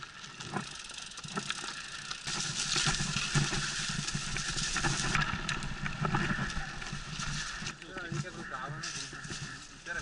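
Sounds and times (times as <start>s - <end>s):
bike tyres crunching on gravel: 0.0s - 10.0s.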